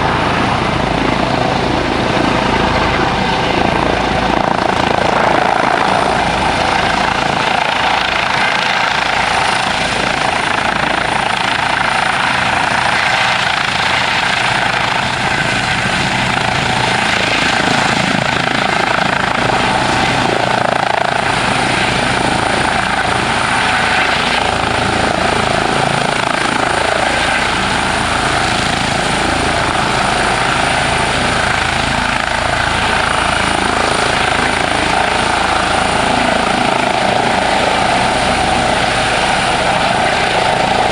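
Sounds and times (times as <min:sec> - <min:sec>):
helicopter engines and rotors: 0:00.0 - 0:40.9.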